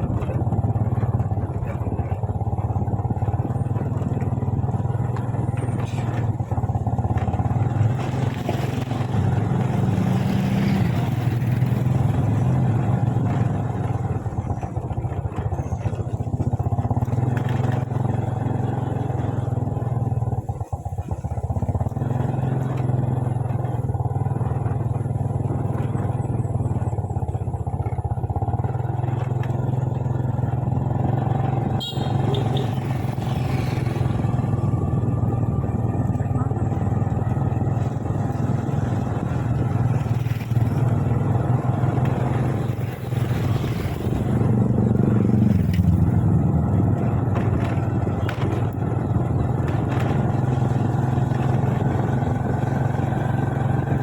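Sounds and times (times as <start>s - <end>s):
small motorcycle engine running: 0.0s - 54.0s
wind and road noise: 0.0s - 54.0s.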